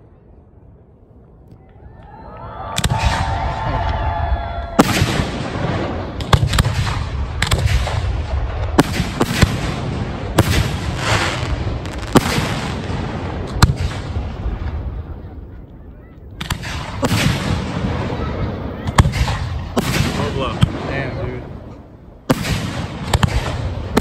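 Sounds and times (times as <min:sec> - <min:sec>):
fireworks bangs: 0:02.6 - 0:24.0.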